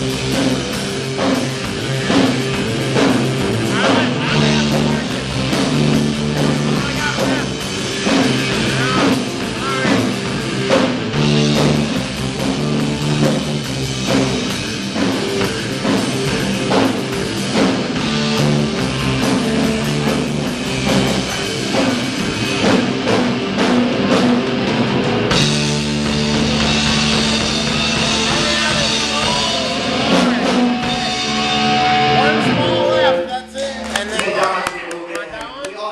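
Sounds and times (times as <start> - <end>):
rock band playing: 0.0 - 35.9.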